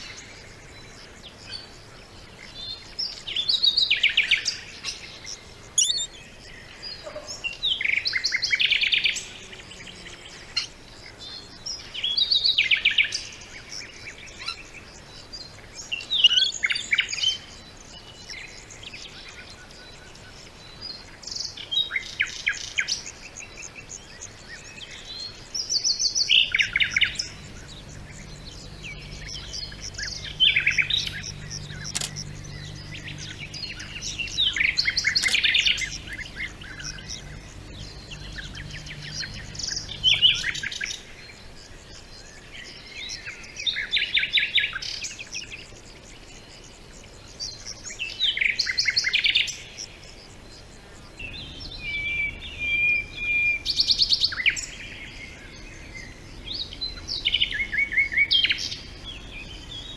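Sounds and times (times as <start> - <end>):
songbirds trilling: 0.0 - 12.6, 13.7 - 44.0, 49.9 - 59.9.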